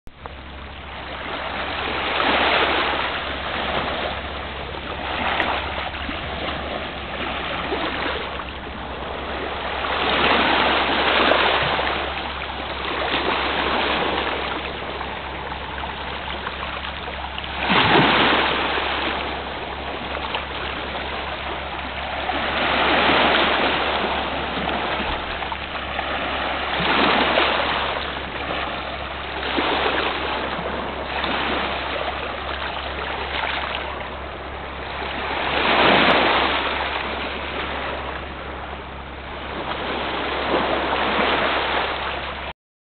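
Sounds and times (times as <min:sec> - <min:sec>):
steady low hum: 0:00.1 - 0:42.5
waves washing onto pebbles: 0:00.4 - 0:42.5.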